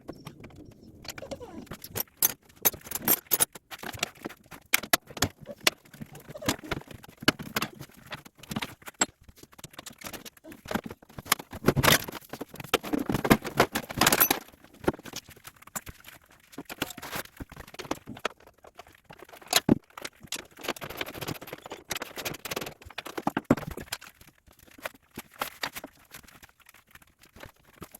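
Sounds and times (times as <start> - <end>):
metal parts scraping and rattling: 0.0 - 27.9.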